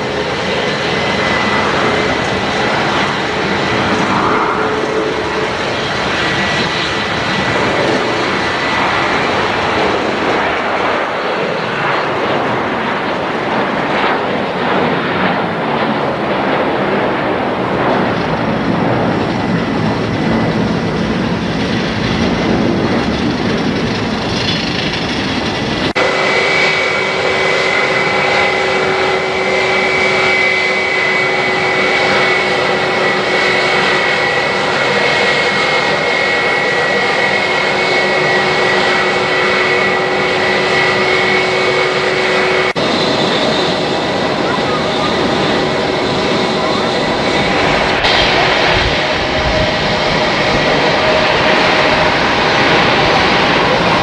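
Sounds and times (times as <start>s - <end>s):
high turbine whine: 0.0s - 54.0s
jet engines roaring: 0.0s - 54.0s.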